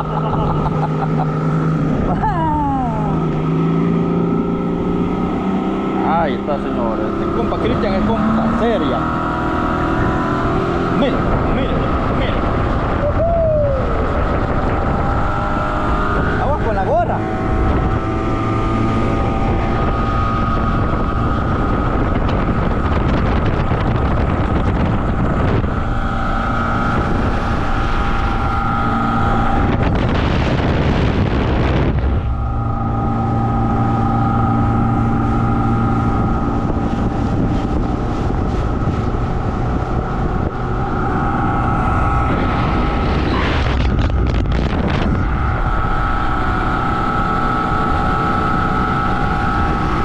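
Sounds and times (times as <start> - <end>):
outboard motor running: 0.0 - 50.0
wind buffeting microphone: 0.0 - 50.0.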